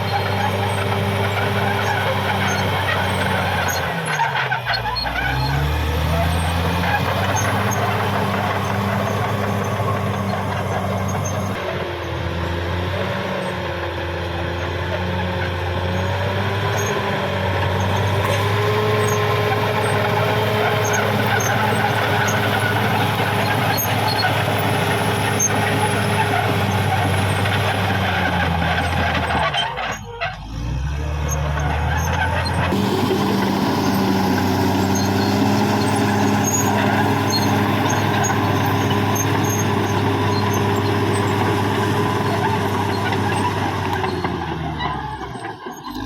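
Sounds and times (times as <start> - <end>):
bulldozer diesel engine running: 0.0 - 46.0.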